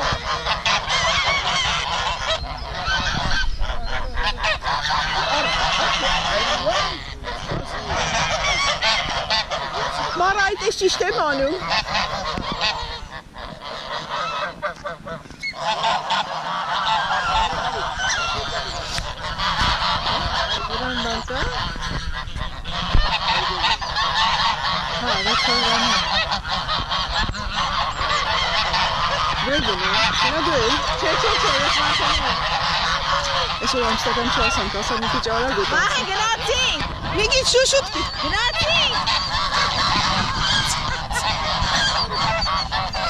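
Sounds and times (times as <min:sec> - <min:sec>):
geese honking: 0:00.0 - 0:43.0.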